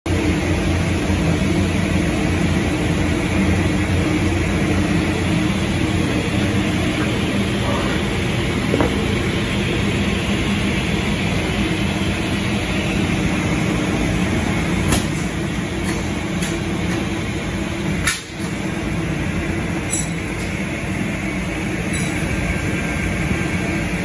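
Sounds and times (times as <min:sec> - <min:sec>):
machine hum: 0:00.1 - 0:24.0.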